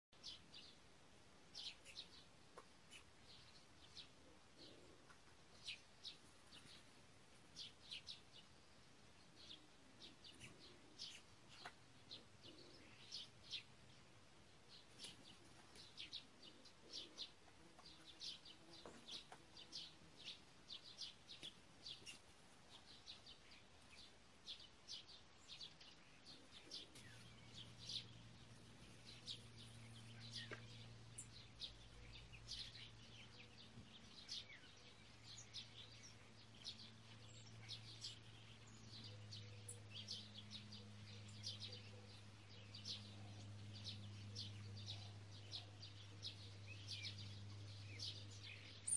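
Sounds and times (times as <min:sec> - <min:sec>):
faint bird chirping: 0:00.1 - 0:48.9
low steady hum: 0:00.2 - 0:48.9.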